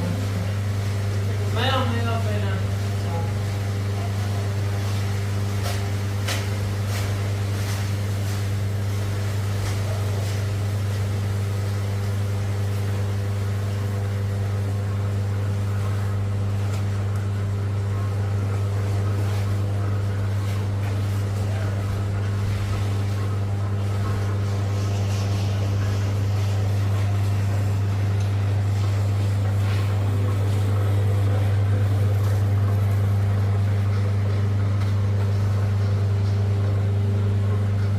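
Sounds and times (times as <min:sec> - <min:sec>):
motor humming with faint hiss: 0:00.0 - 0:37.9.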